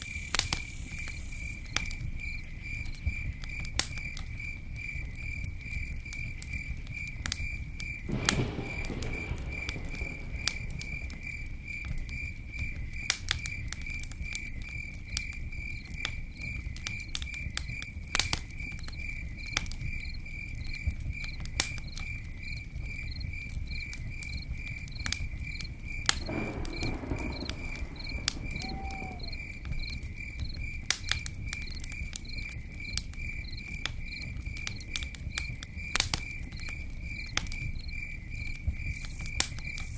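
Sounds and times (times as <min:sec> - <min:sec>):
insect chirping: 0:00.0 - 0:17.8, 0:18.6 - 0:39.9
campfire crackling: 0:00.0 - 0:39.9.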